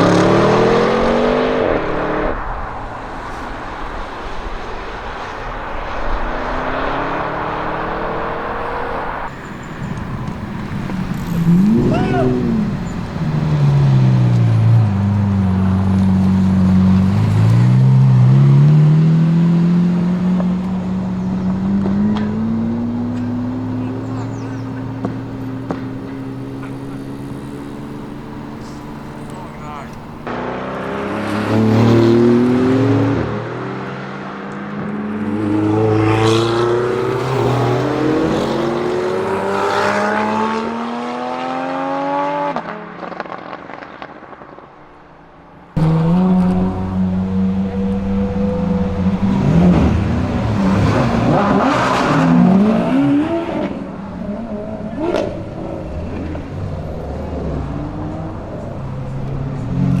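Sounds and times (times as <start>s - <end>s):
car engine accelerating through gears: 0.0s - 2.6s, 6.1s - 44.5s, 45.7s - 60.0s
car engine revving: 0.0s - 44.5s, 45.7s - 60.0s.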